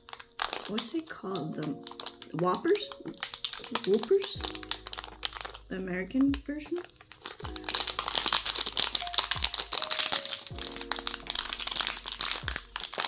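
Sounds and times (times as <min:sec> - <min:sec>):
plastic wrapper crinkling: 0:00.0 - 0:13.0
soft background music: 0:00.0 - 0:13.0.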